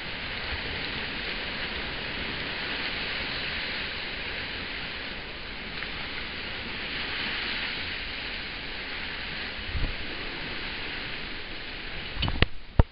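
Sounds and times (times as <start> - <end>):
wind and water rushing: 0.0 - 12.9
wind buffeting on microphone: 0.0 - 12.9.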